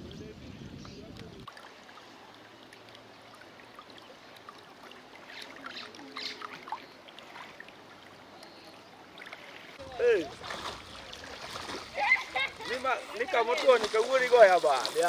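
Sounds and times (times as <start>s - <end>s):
faint flowing floodwater: 0.9s - 15.0s
water splashes: 1.2s - 15.0s.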